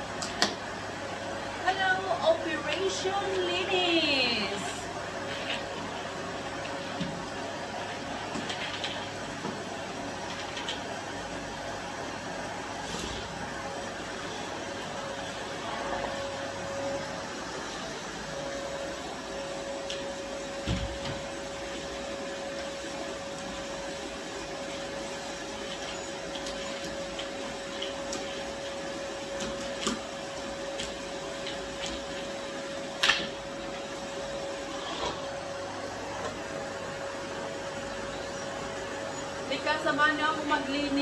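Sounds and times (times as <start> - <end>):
vacuum cleaner motor humming: 0.0 - 41.0.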